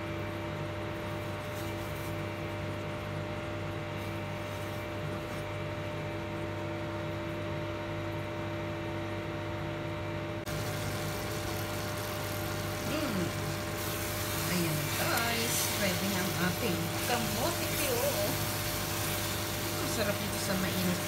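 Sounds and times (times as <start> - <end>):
cooktop electrical hum: 0.0 - 21.0
cooktop fan hiss: 0.0 - 21.0.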